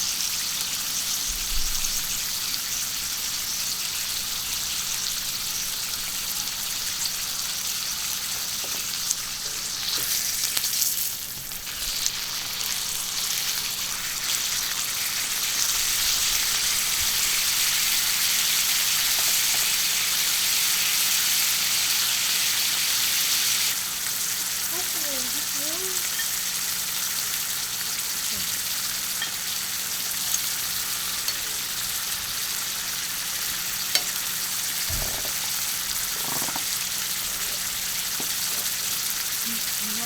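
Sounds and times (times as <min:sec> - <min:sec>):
food sizzling on griddle: 0:00.0 - 0:40.0.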